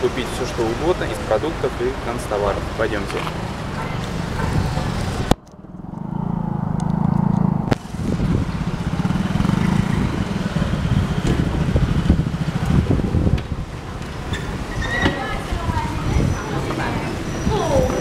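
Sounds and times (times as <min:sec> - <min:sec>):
motorbike and car engines: 0:00.0 - 0:18.0.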